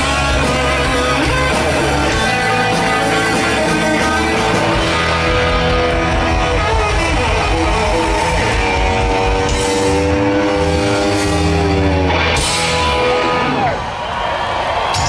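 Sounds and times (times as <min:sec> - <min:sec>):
sustained electric guitar notes: 0:00.0 - 0:13.7
live rock band: 0:00.0 - 0:15.0.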